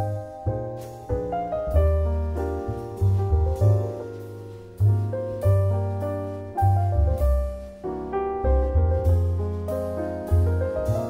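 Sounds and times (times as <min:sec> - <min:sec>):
piano chords over bass line: 0:00.0 - 0:11.0.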